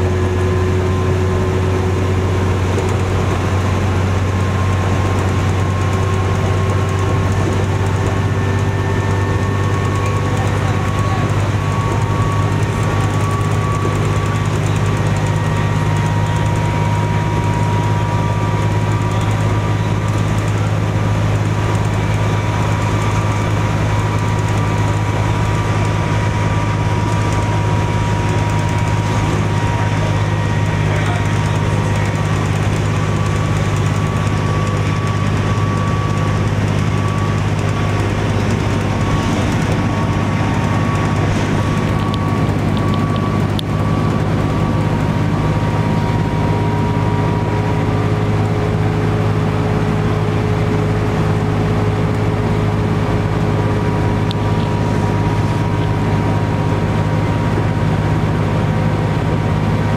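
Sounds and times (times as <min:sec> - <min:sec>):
diesel bus engine drone: 0:00.0 - 0:59.9
faint steady whine: 0:00.8 - 0:59.9.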